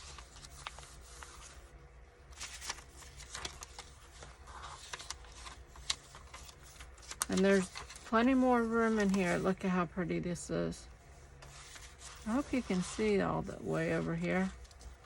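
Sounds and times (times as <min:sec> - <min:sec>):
paper pages rustling: 0:00.0 - 0:01.7, 0:02.3 - 0:09.6, 0:11.1 - 0:15.0.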